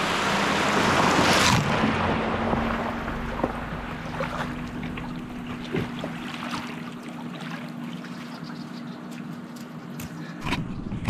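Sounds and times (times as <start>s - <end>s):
car engine hum: 0.0s - 11.0s
floodwater sloshing and splashing: 0.0s - 11.0s.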